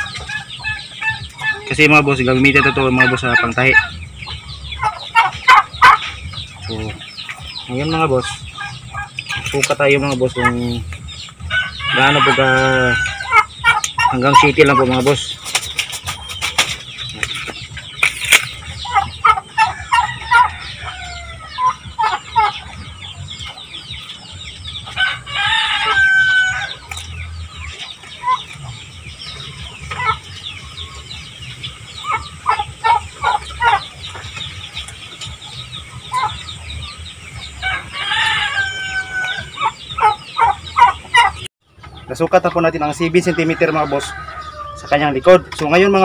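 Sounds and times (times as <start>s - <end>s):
poultry clucking: 0.0s - 46.0s.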